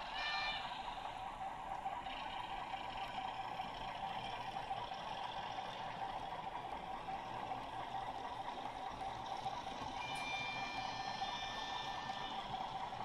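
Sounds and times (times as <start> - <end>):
model train wheels rumbling: 0.0 - 13.0.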